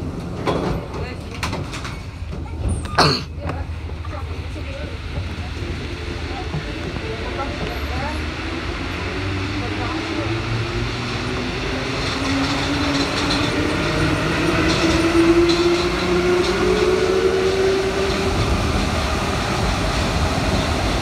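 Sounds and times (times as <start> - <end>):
metro train running: 0.0 - 21.0.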